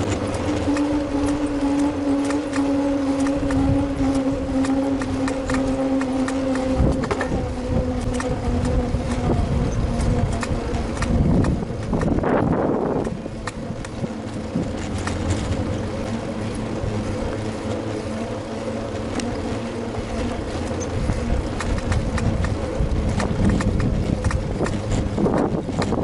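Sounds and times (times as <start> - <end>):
bicycle clicks and rattles: 0.0 - 15.9, 18.9 - 26.0
bicycle rolling hum: 0.0 - 26.0.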